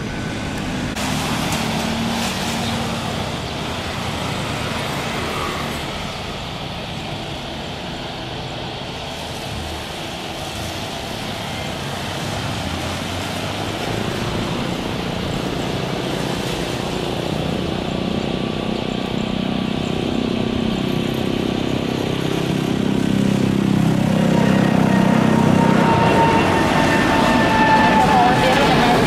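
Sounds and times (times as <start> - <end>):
jet engines at takeoff: 0.0 - 29.0.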